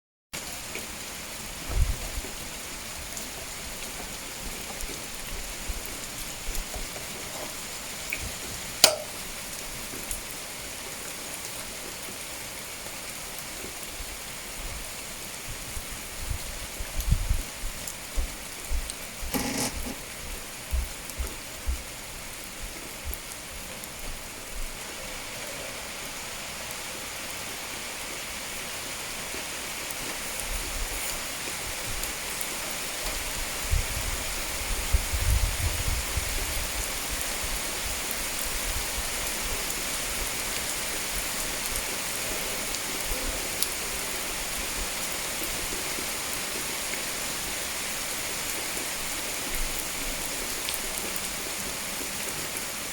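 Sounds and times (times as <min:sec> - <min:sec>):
steady rain falling: 0:00.4 - 0:52.9.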